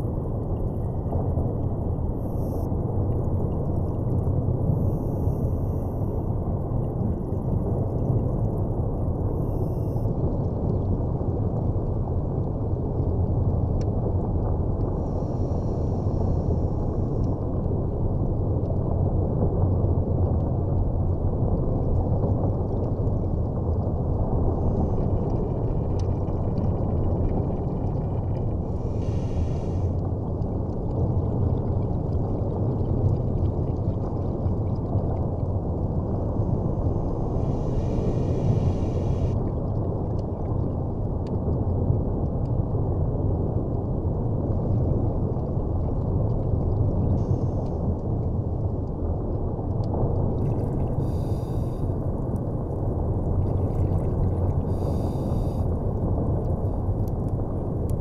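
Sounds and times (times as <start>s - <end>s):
muffled underwater rumble: 0.0s - 58.0s.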